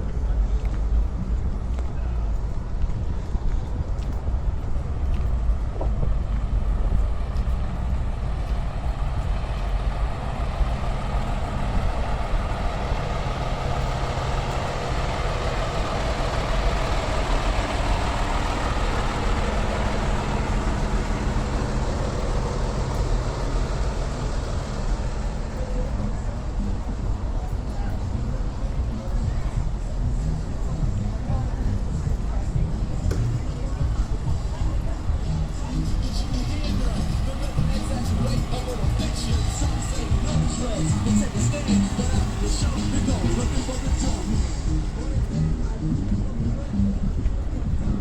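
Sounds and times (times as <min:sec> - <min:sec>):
truck engine running: 0:00.0 - 0:48.0
vehicle rumble passing by: 0:00.0 - 0:48.0.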